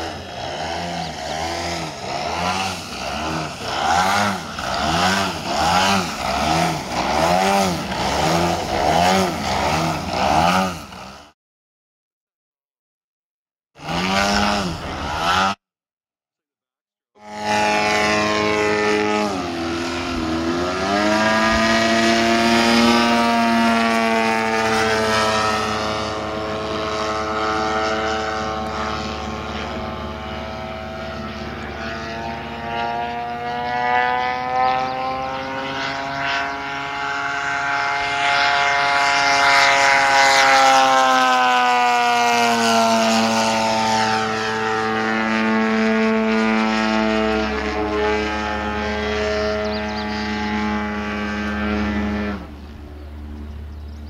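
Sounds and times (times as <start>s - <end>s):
model plane engine and propeller: 0.0s - 11.4s, 13.8s - 15.6s, 17.2s - 54.0s.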